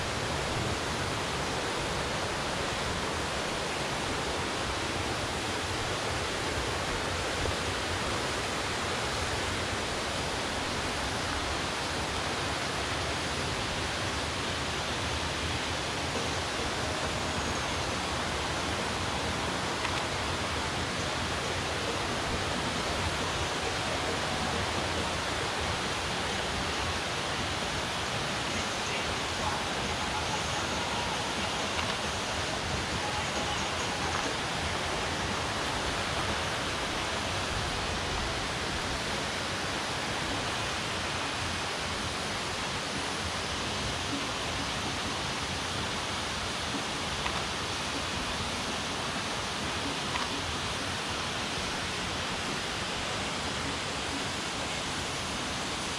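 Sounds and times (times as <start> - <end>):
waterfall roar: 0.0 - 55.9.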